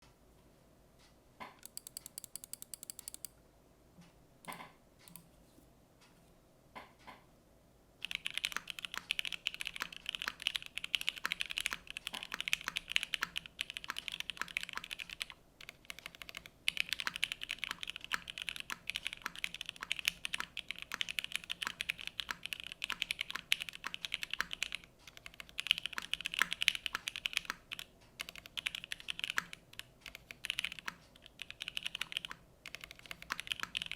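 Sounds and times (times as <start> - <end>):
mechanical keyboard typing: 1.6 - 3.3, 4.5 - 5.2, 8.0 - 33.9.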